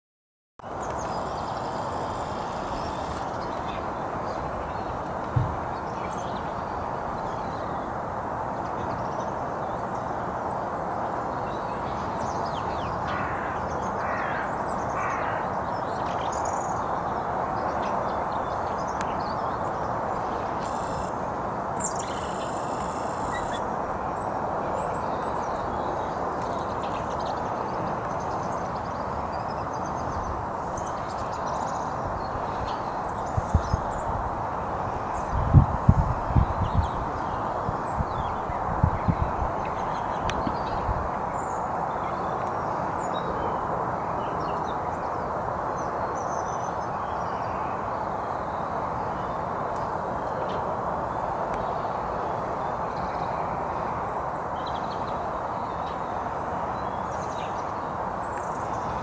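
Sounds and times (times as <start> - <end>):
outdoor background hiss: 0.6 - 59.0.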